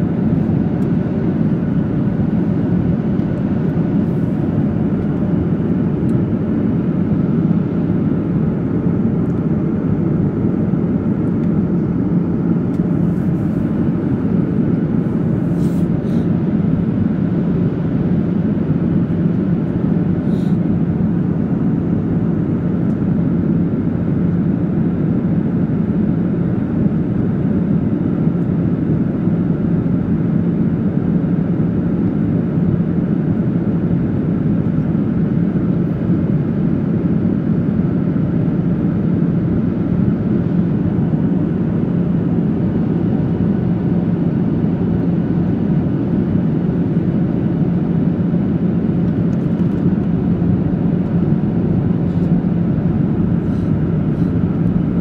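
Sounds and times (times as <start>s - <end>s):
jet engine cabin roar: 0.0s - 55.0s.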